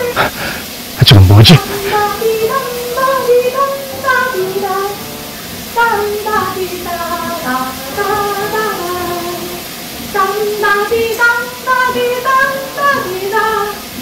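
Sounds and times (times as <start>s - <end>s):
high sung melody: 0.0s - 14.0s.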